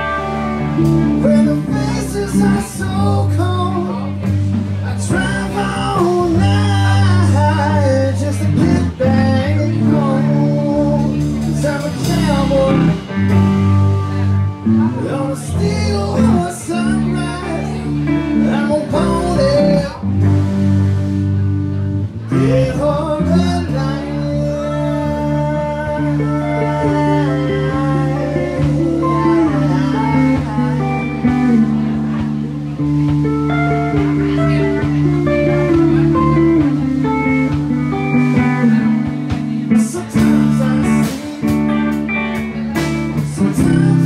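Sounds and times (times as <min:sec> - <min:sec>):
man singing lead vocal: 0:00.0 - 0:20.6, 0:22.2 - 0:32.4, 0:37.5 - 0:41.9, 0:42.8 - 0:44.0
live blues-rock band playing: 0:00.0 - 0:44.0.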